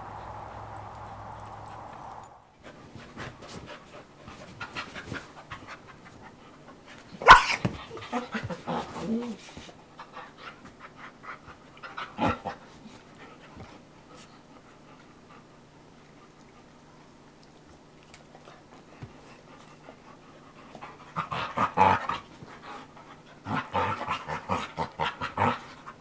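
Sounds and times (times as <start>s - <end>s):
dogs scuffling and panting: 0.6s - 26.0s.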